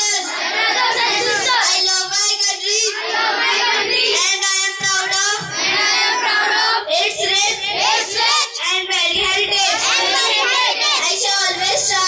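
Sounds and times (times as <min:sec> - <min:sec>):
children chanting in unison: 0:00.0 - 0:12.0.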